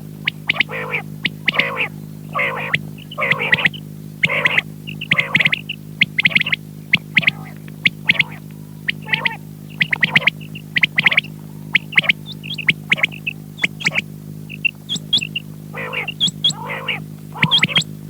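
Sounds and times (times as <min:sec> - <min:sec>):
steady electrical hum: 0:00.0 - 0:18.0
quail calling: 0:00.1 - 0:18.0.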